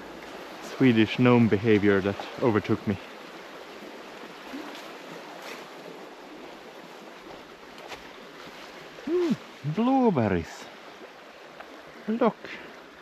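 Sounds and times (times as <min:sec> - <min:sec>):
rushing forest ambience: 0:00.0 - 0:13.0.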